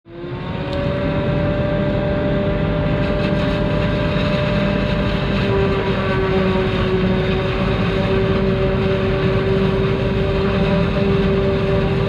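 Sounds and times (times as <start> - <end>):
farm machinery whining and rumbling: 0.1 - 12.0.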